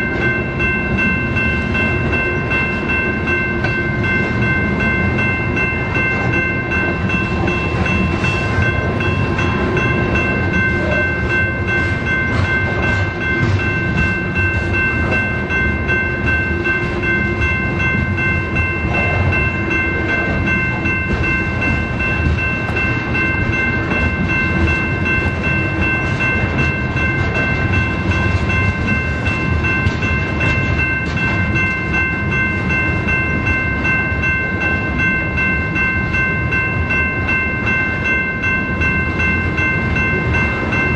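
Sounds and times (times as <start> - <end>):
freight train rumbling past: 0.0 - 40.9
high-pitched ringing tone: 0.0 - 40.9.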